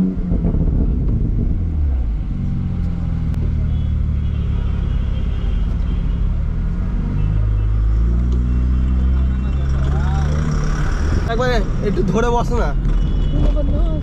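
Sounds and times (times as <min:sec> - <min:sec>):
sports car engine droning: 0:00.0 - 0:12.1.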